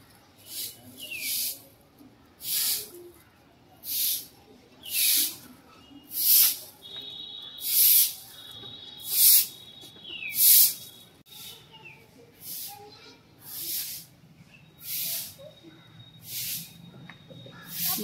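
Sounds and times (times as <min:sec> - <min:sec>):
broom sweeping on brick path: 0:00.1 - 0:15.6, 0:16.2 - 0:18.0.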